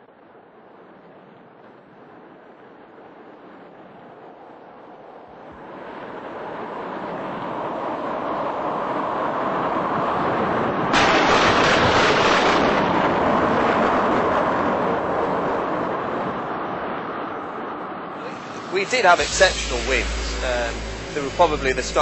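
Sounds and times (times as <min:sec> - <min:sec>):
strong wind gusting: 0:00.0 - 0:22.0.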